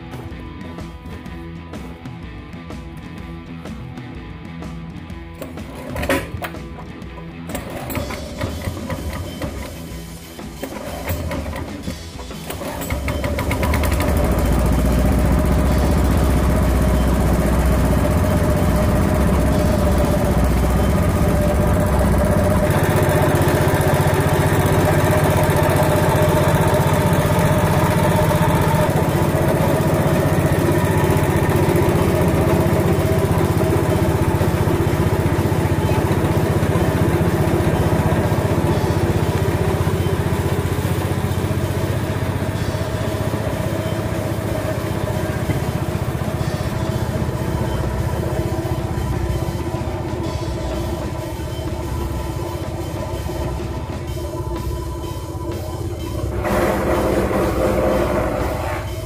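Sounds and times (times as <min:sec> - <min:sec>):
small petrol engine running: 0:05.3 - 0:59.0.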